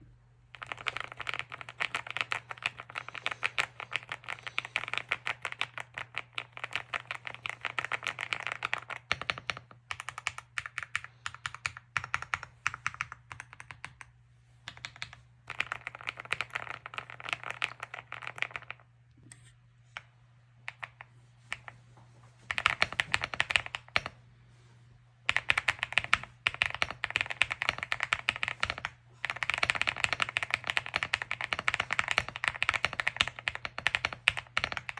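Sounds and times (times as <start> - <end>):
fast mechanical keyboard typing: 0.5 - 14.1, 14.7 - 18.8, 20.7 - 21.7, 22.5 - 24.2, 25.3 - 34.9.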